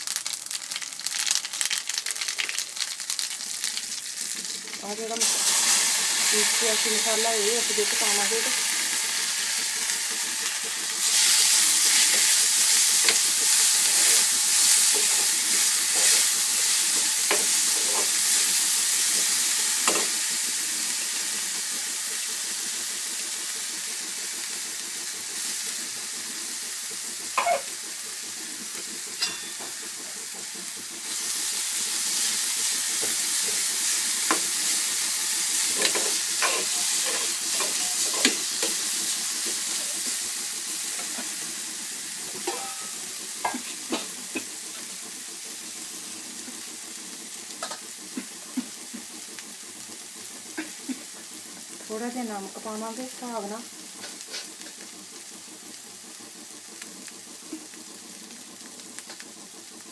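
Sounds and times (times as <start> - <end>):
spice paste sizzling in pan: 0.0 - 59.9.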